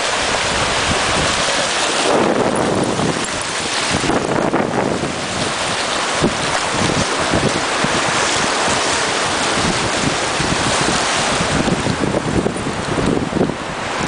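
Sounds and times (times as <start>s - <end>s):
small waves breaking: 0.0s - 14.0s
wind buffeting microphone: 0.0s - 14.0s.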